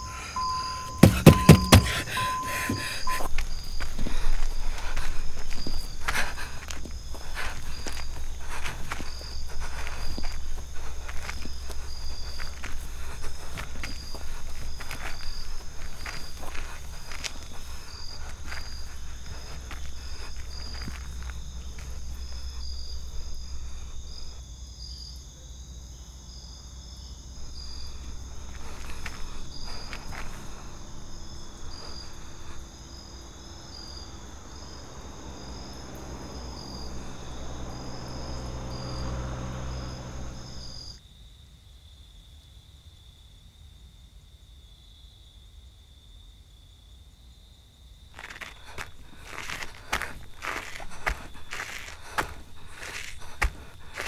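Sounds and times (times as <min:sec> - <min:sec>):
footsteps on rough road: 0:00.0 - 0:24.5, 0:27.2 - 0:40.9, 0:48.2 - 0:54.0
crickets chirping: 0:00.0 - 0:54.0.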